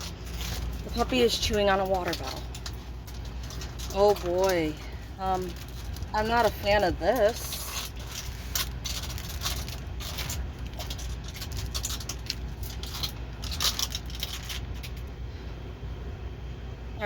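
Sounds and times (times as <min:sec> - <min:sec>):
plastic crinkling and clicking: 0:00.0 - 0:15.1.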